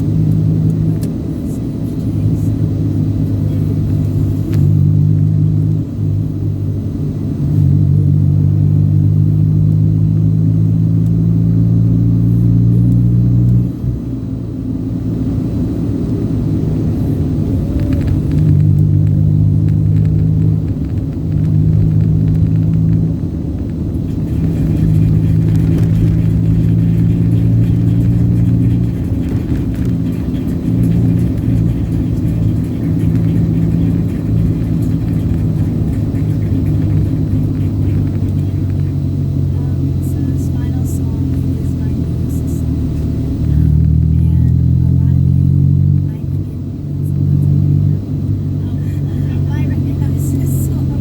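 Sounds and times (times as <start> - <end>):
vehicle engine and road noise: 0.0 - 51.0.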